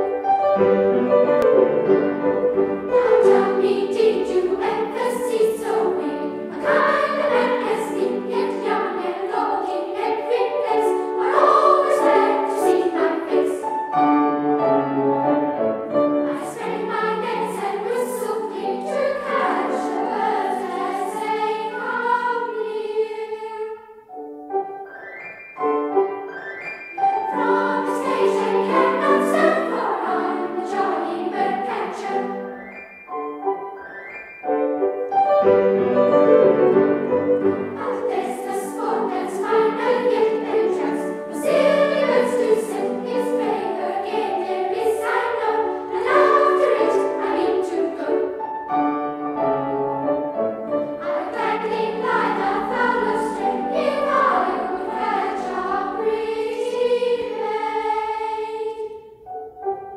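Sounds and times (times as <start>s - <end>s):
keyboard accompaniment: 0.0s - 59.9s
girls' choir singing: 1.2s - 14.8s, 15.6s - 24.2s, 26.9s - 33.1s, 36.1s - 48.8s, 50.7s - 59.2s.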